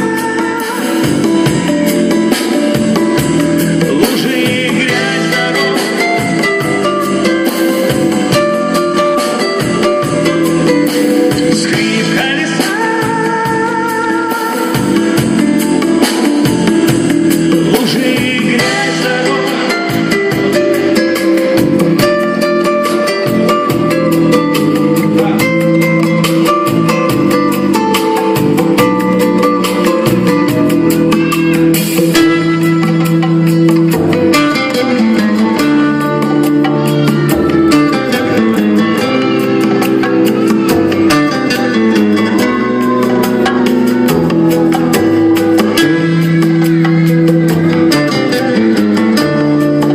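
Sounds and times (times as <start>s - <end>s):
bass line: 0.0s - 49.9s
held melody notes: 0.0s - 49.9s
strummed guitar: 0.0s - 49.9s.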